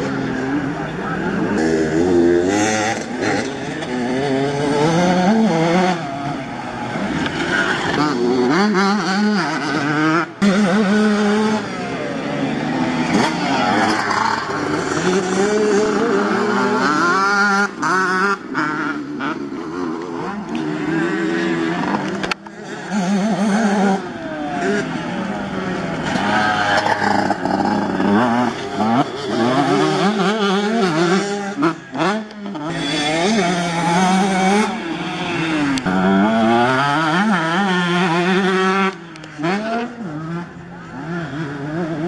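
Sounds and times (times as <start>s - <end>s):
motocross engines revving: 0.0s - 42.0s.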